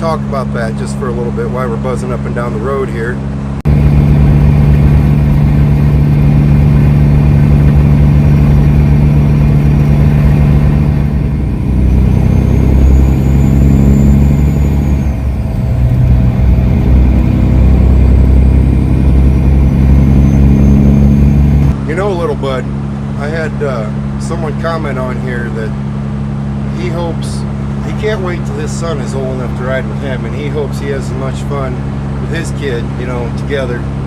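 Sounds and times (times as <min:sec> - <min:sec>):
truck diesel engine and road drone: 0:00.0 - 0:34.0.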